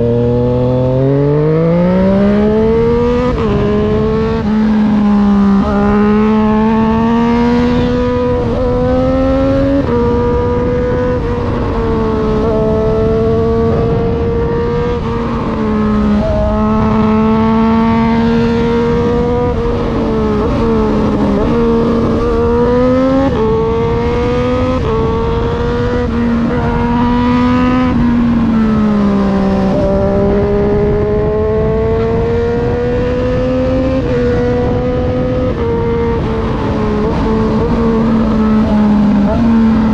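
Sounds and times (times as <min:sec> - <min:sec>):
motorcycle engine revving: 0:00.0 - 0:39.9
wind and road rush: 0:00.0 - 0:39.9.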